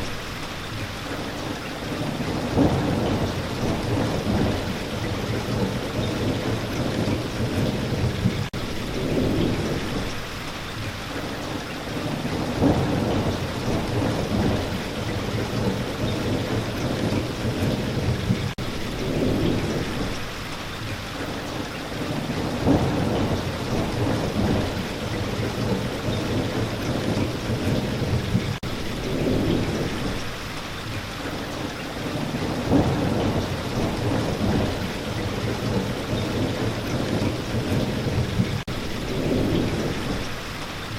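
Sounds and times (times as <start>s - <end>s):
rain falling: 0.0s - 40.9s
thunder rolling: 1.8s - 10.2s, 12.0s - 20.3s, 21.9s - 30.3s, 32.0s - 40.4s.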